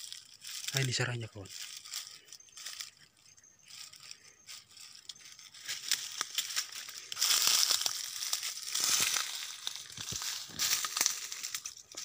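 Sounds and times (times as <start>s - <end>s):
dry leaves and twigs crackling: 0.0s - 12.0s.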